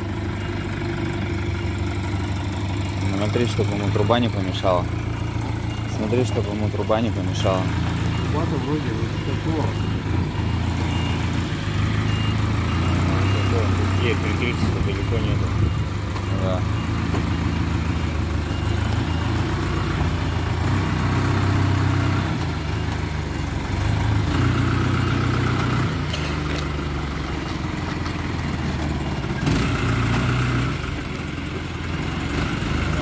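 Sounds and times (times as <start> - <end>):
truck engine running at low revs: 0.0 - 33.0.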